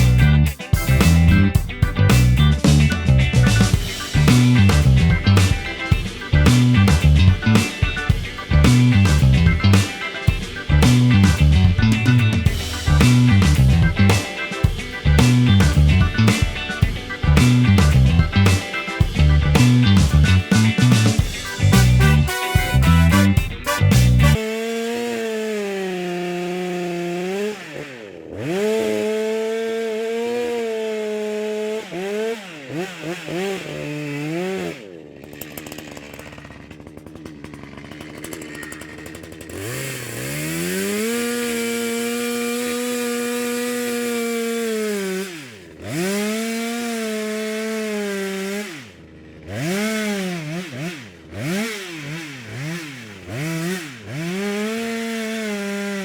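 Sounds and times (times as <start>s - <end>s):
two-stroke chainsaw revving: 0.0s - 56.0s.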